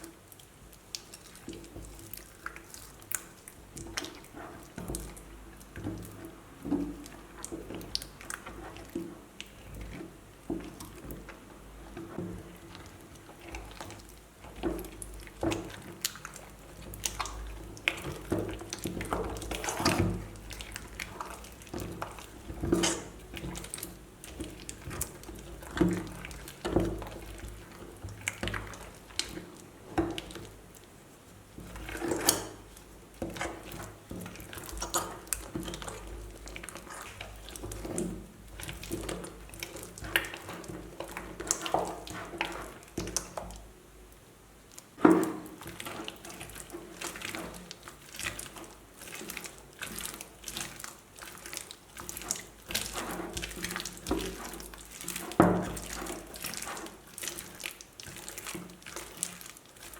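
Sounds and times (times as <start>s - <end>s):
slime squelching and crackling: 0.0s - 43.6s, 44.7s - 59.9s.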